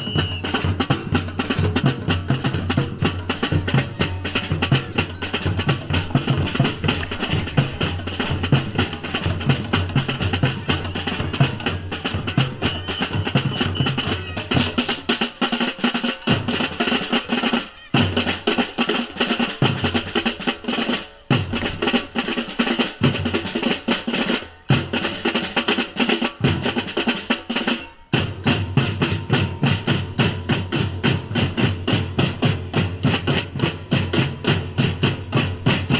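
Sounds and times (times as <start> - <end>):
samba drum ensemble: 0.0 - 35.9.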